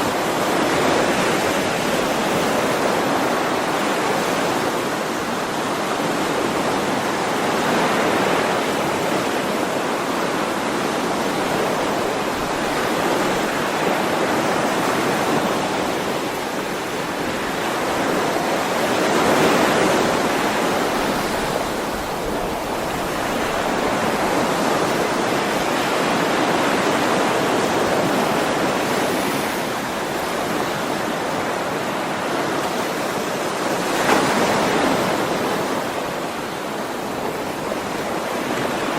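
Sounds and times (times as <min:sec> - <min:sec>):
ocean waves on shore: 0:00.0 - 0:38.9.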